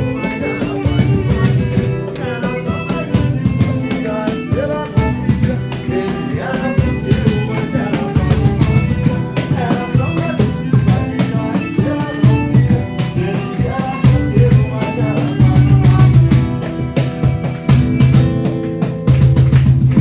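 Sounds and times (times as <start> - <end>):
bass and drum beat: 0.0 - 20.0
live band instrumental: 0.0 - 20.0
sliding melody: 0.0 - 20.0.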